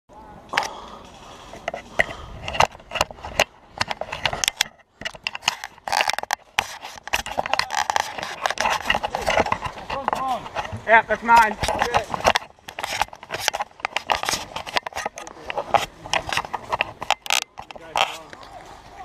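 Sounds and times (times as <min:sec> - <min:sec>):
scraping rubs: 0:01.4 - 0:18.4.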